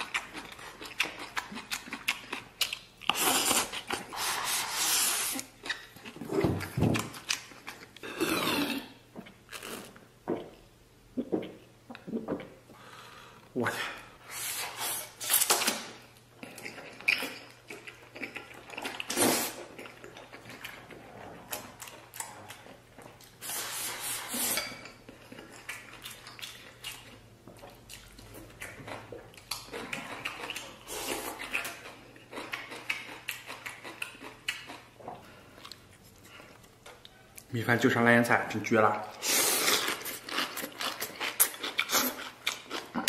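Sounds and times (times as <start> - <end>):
chewing: 0.0 - 10.6, 16.4 - 23.4, 24.3 - 37.5, 39.1 - 43.0.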